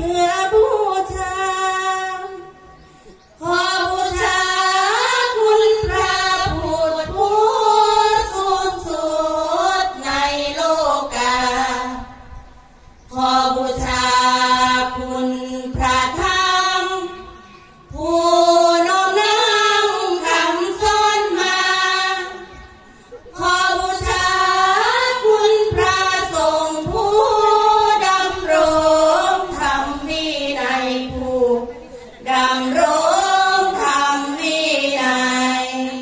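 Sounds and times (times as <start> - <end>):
women singing in unison: 0.0 - 2.6, 3.4 - 36.0.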